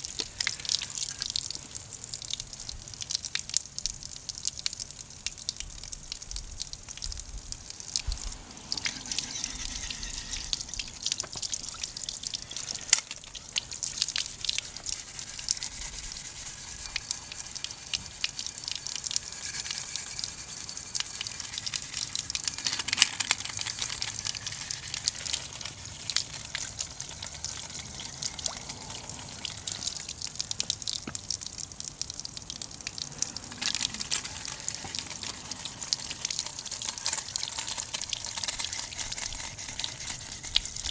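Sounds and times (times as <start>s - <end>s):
broth bubbling in a pot: 0.0s - 40.9s
wood fire crackling: 0.0s - 40.9s.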